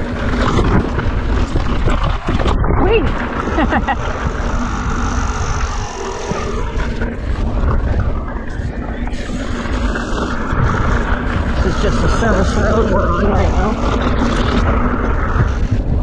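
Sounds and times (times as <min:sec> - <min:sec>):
mountain bike rattling on dirt: 0:00.0 - 0:16.0
wind buffeting microphone: 0:00.0 - 0:16.0.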